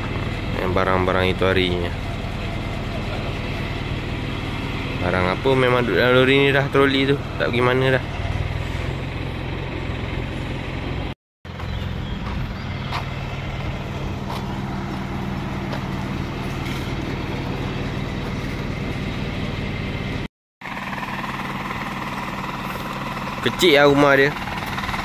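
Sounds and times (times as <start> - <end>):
lorry engine droning: 0.0 - 25.0.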